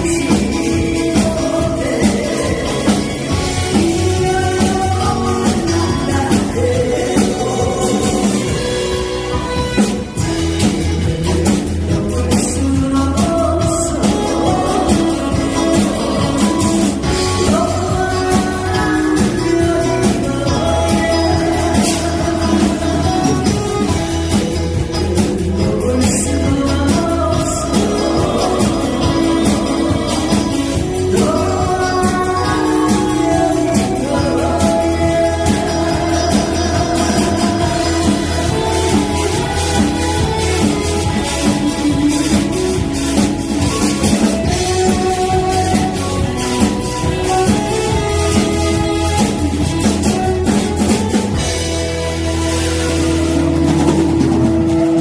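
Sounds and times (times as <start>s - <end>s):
woman singing: 0.0s - 9.9s, 11.1s - 51.4s
backing band with steady bass beat: 0.0s - 55.0s.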